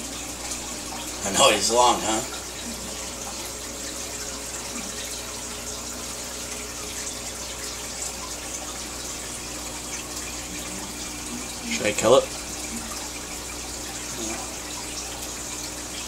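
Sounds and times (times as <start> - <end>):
aquarium filter water pouring: 0.0 - 16.0.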